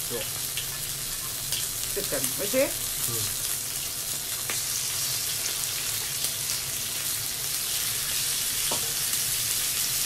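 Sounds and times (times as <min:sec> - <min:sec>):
meat and vegetables sizzling: 0:00.0 - 0:10.0.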